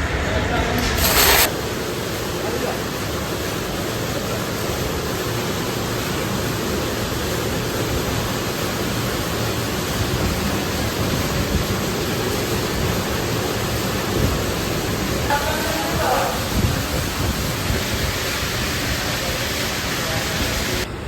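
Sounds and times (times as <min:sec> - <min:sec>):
workshop machinery running: 0:00.0 - 0:21.0.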